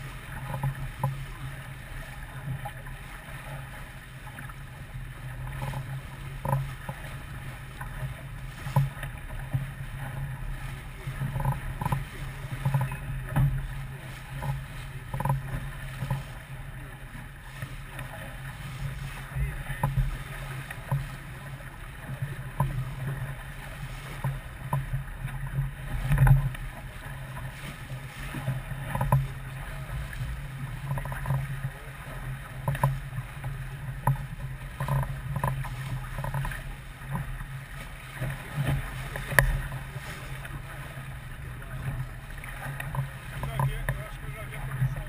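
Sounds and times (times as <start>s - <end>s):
boat engine rumble: 0.0s - 45.0s.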